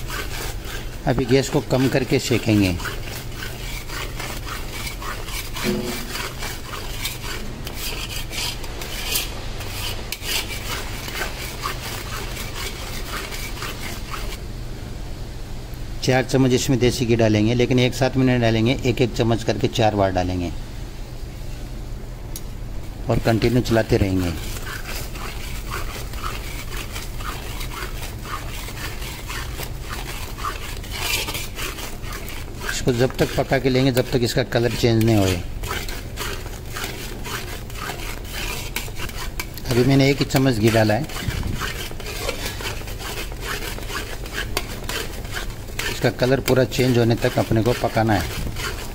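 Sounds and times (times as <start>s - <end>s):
metal spatula scraping a pan: 0.0s - 14.4s, 23.1s - 48.9s
steady low hum: 0.0s - 48.9s.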